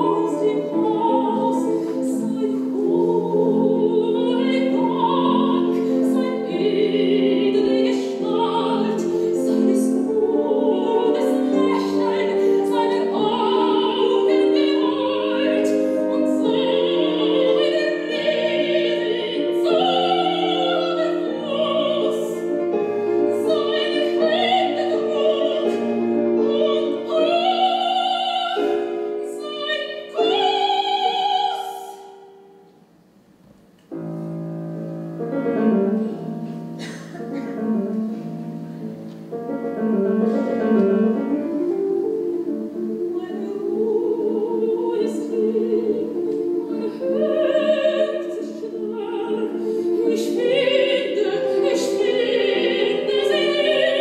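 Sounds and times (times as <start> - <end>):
operatic soprano singing: 0.0 - 32.6, 38.8 - 54.0
grand piano: 0.0 - 54.0.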